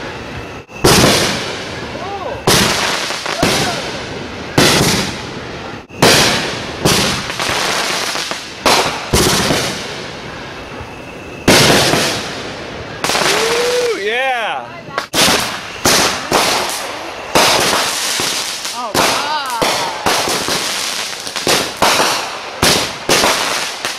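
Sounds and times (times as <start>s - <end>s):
fireworks bursting with crackle: 0.0s - 23.9s.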